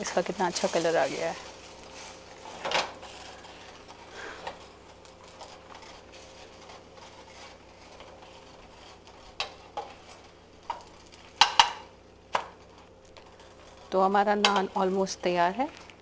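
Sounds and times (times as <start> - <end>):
bread faintly sizzling on griddle: 0.0 - 16.0.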